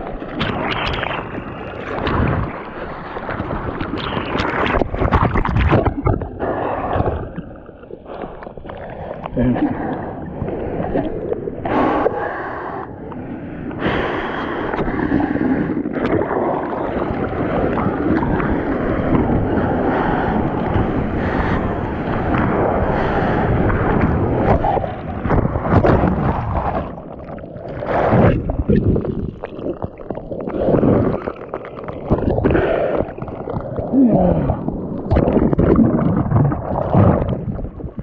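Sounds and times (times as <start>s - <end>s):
seawater rushing and splashing: 0.0s - 38.0s.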